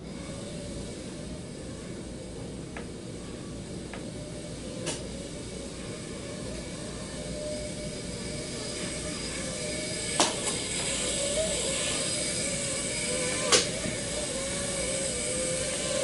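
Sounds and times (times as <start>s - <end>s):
drone motors buzzing: 0.0s - 16.0s
steady hiss: 0.0s - 16.0s.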